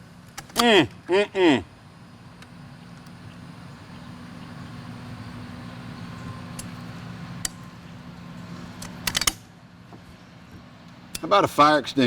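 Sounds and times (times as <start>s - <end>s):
low motor hum: 0.0s - 11.2s.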